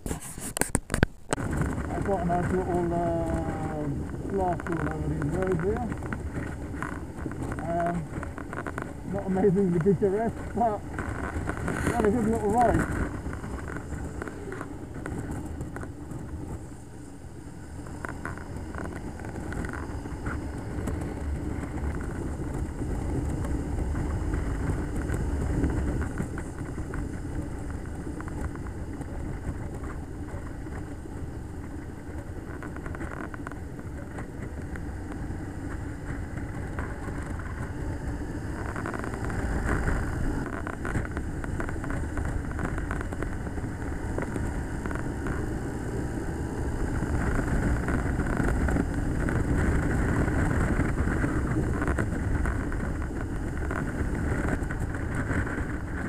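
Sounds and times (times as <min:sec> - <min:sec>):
road vehicles passing: 0:01.3 - 0:56.0.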